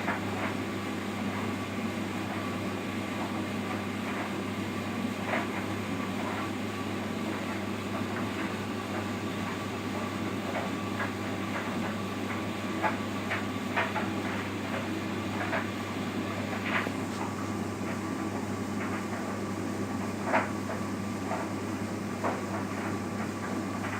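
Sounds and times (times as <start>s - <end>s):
tumble dryer humming: 0.0s - 23.9s.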